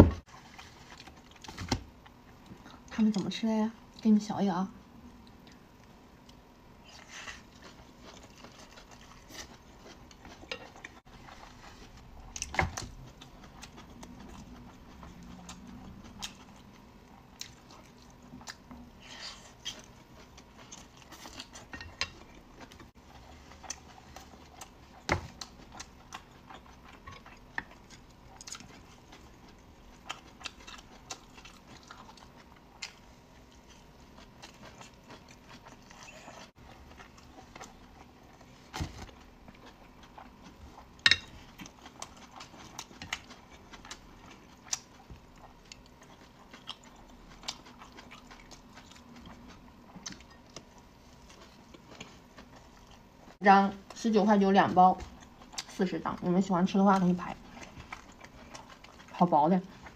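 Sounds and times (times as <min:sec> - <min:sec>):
person chewing food: 0:00.2 - 0:02.9, 0:05.1 - 0:54.0, 0:55.0 - 0:55.8, 0:56.9 - 0:59.9.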